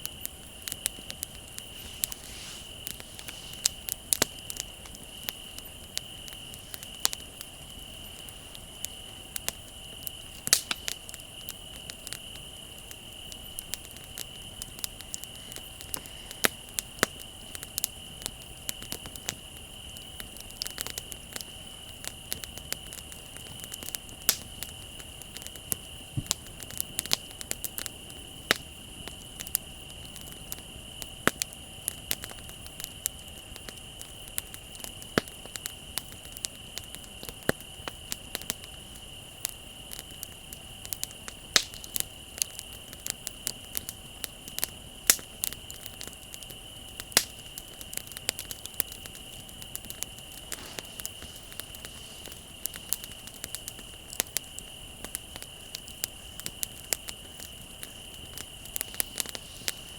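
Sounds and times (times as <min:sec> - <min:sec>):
bonfire crackling: 0:00.0 - 0:59.9
crickets chirring: 0:00.0 - 0:59.9.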